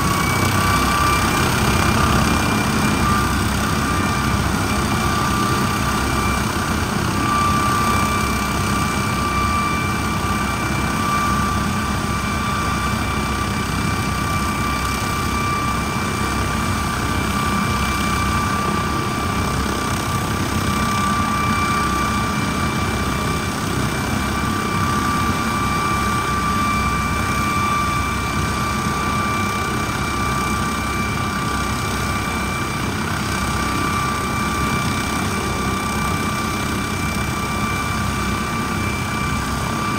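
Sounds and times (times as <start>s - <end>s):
helicopter engines and rotor running: 0.0s - 39.9s.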